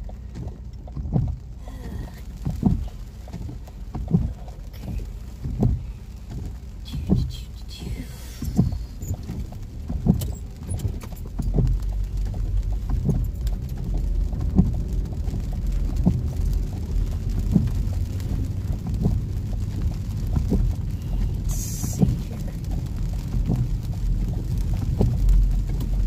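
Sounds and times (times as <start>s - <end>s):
car interior rumble: 0.0s - 26.0s
windshield wipers knocking: 0.0s - 26.0s.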